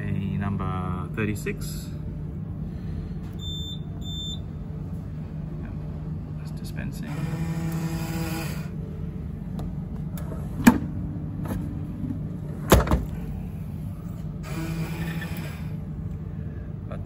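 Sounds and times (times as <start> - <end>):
vending machine low hum: 0.0 - 17.0.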